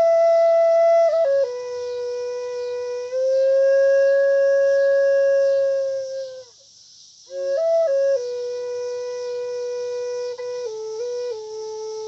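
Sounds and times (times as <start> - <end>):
wooden flute playing: 0.0 - 6.6, 7.3 - 12.0.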